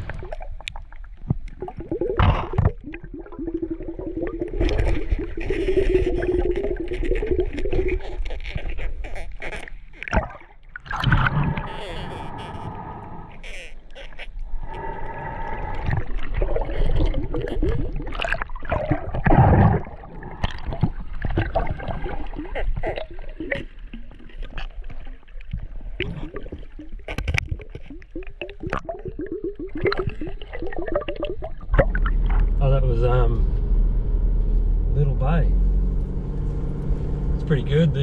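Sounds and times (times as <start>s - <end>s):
water bubbling: 0.0s - 33.2s
water gurgling and splashing: 0.0s - 33.4s.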